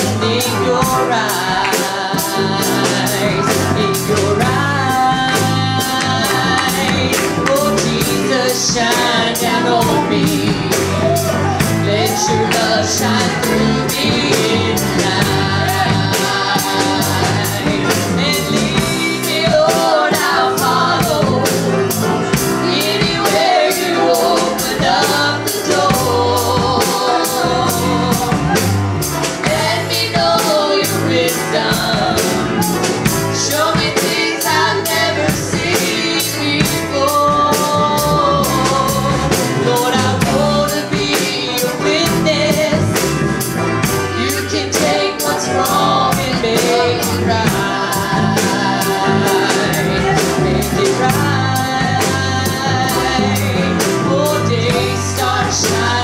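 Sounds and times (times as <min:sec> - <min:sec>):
person singing: 0:00.0 - 0:43.2, 0:44.1 - 0:56.0
drum kit beat: 0:00.0 - 0:56.0
grand piano: 0:00.0 - 0:56.0.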